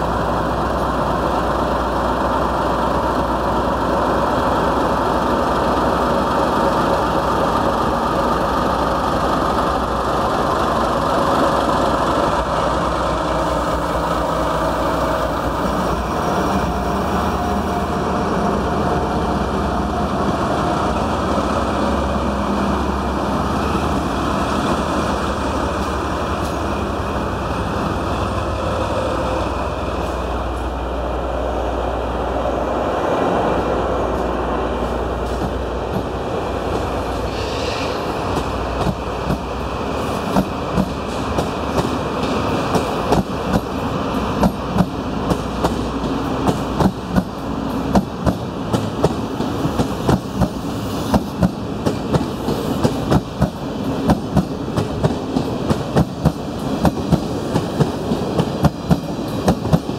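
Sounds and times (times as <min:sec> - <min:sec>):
diesel locomotive engines running: 0:00.0 - 0:59.9
train coaches rolling: 0:00.0 - 0:59.9.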